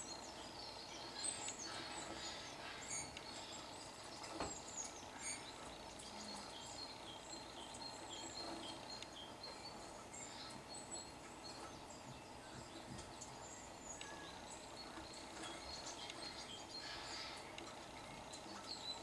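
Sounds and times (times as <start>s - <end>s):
small birds chirping on television: 0.0s - 19.0s.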